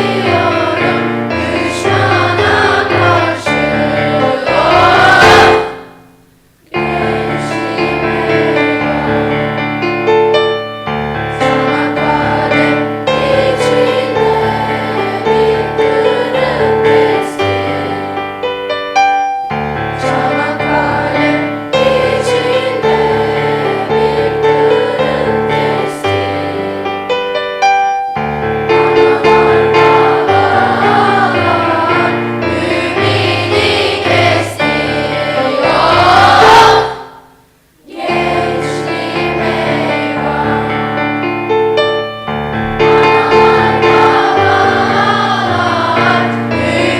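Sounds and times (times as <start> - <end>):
choir singing with instruments: 0.0 - 46.9.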